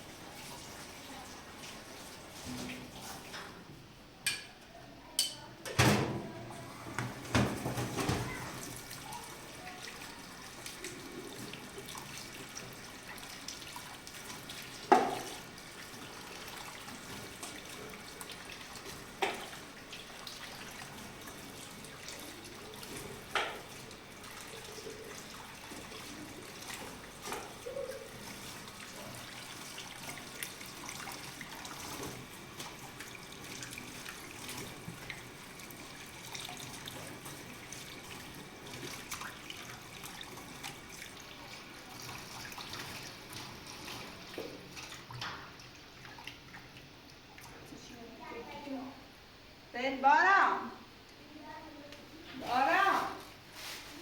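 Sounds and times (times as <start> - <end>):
running water: 0.0 - 3.8, 6.0 - 49.2, 51.2 - 54.0.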